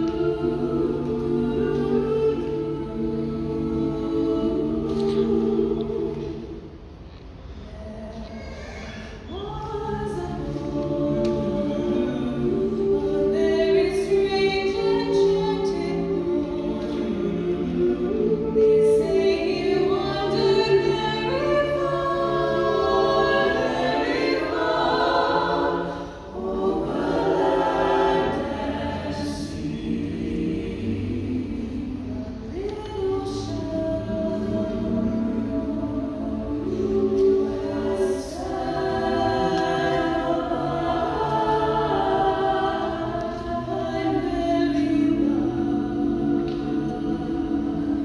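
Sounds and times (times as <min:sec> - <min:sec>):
choir singing a cappella: 0:00.0 - 0:48.0.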